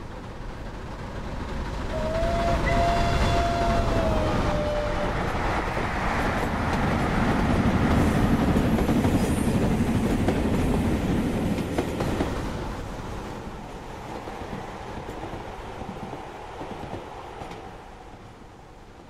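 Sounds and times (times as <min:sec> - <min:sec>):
model train wheels rumbling on track: 0:00.0 - 0:17.7.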